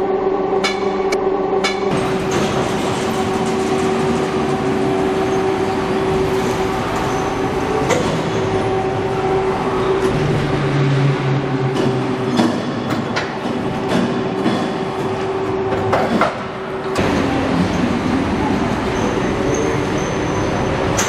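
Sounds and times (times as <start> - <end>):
deeper hum: 0.0 - 19.7
machinery electric hum: 0.0 - 21.0.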